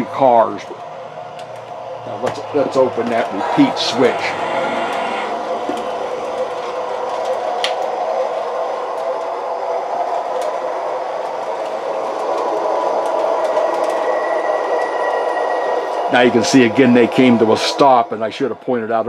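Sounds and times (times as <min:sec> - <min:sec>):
model train wheels and motors rumbling: 0:00.0 - 0:19.0.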